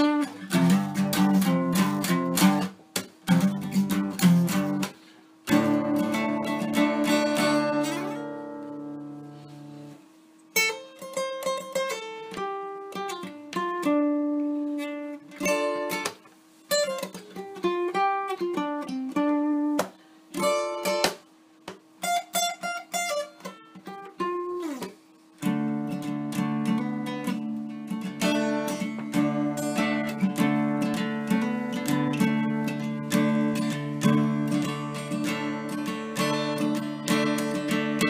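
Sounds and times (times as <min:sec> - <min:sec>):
acoustic guitar played solo: 0:00.0 - 0:38.0.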